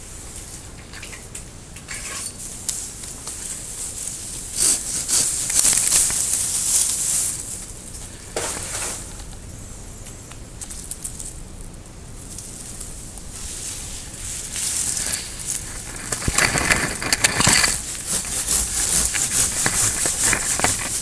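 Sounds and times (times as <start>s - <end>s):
leaves and twigs rustling: 0.0s - 21.0s.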